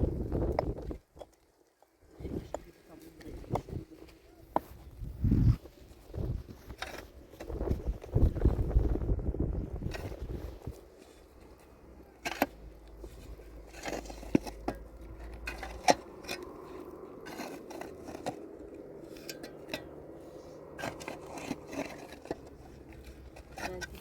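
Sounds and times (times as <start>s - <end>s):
objects being handled: 0.5s - 24.0s.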